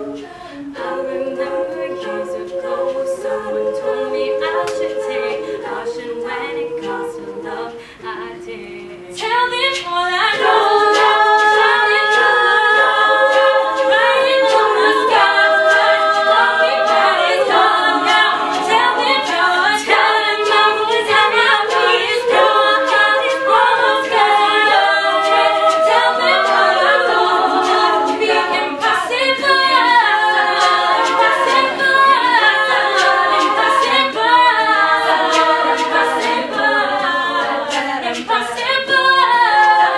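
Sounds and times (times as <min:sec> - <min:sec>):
female a cappella group singing: 0:00.0 - 0:39.9
sharp rhythmic clicks: 0:00.8 - 0:07.8, 0:09.1 - 0:39.9.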